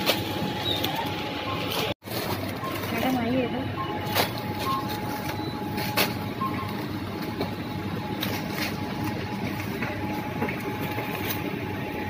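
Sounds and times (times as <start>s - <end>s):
store noise: 0.0s - 12.0s.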